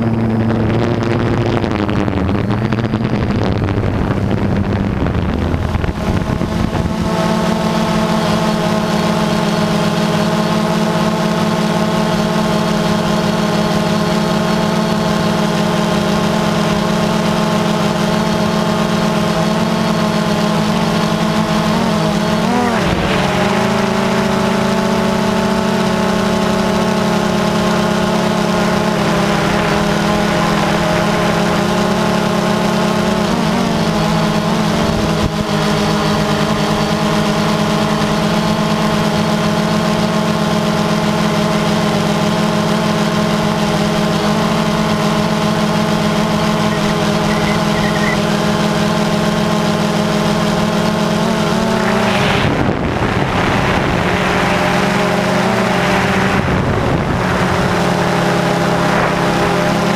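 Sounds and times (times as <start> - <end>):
drone motors humming: 0.0 - 59.9.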